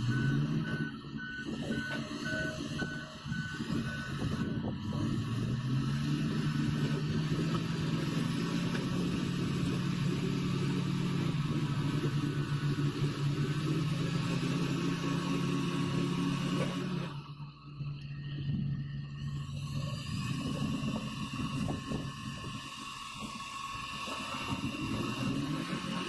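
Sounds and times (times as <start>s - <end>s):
heavy machine engine running: 0.0s - 26.0s.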